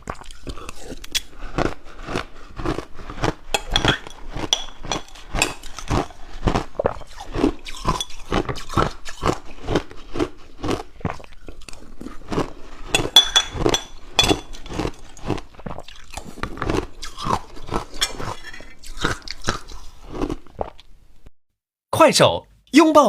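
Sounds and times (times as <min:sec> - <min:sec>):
crisp chewing crunches: 0:00.0 - 0:13.7, 0:14.4 - 0:20.9.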